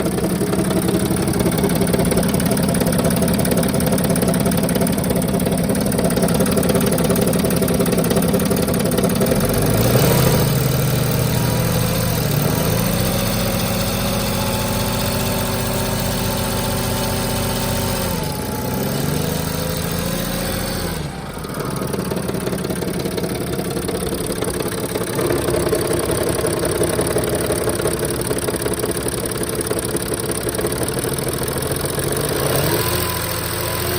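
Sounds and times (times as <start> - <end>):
diesel engine idling and revving: 0.0 - 33.9
exhaust leak: 0.0 - 33.9.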